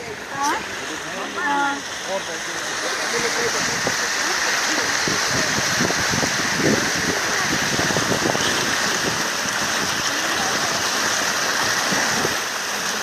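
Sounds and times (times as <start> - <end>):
faint voices: 0.0 - 13.0
flowing water rushing: 0.0 - 13.0.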